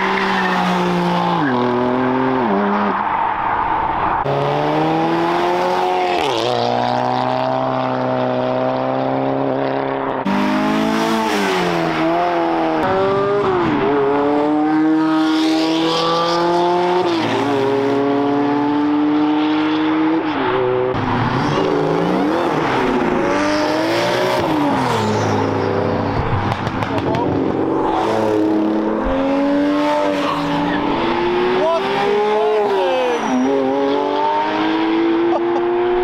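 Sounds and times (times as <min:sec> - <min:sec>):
cars accelerating hard: 0:00.0 - 0:36.0.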